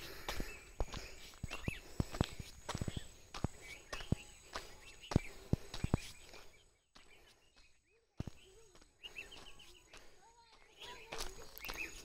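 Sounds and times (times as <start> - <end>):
bird chirps: 0.0 - 12.0
footsteps on dirt: 0.0 - 12.0.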